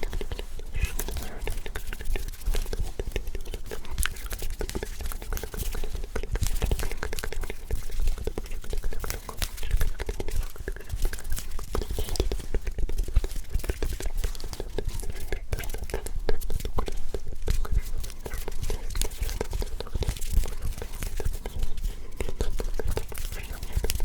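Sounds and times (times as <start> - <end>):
hands rubbing and tapping: 0.0 - 24.0
whispering: 0.0 - 24.0.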